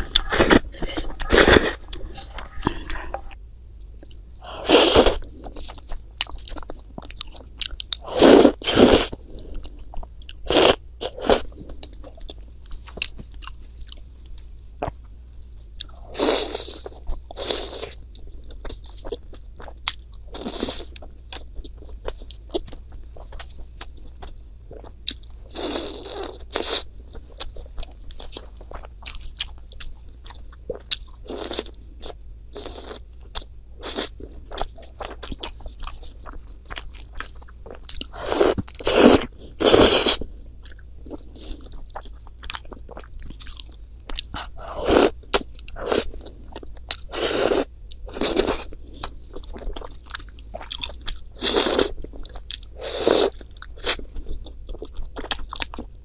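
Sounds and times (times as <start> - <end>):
person chewing crunchy food: 0.0 - 15.1, 15.8 - 56.0.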